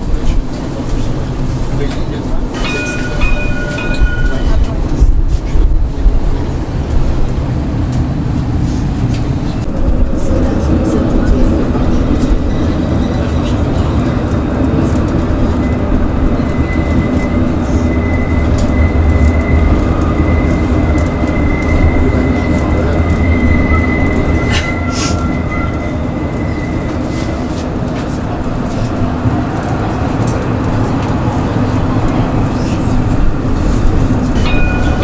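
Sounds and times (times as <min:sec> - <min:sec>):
tram rumbling on rails: 0:00.0 - 0:35.0.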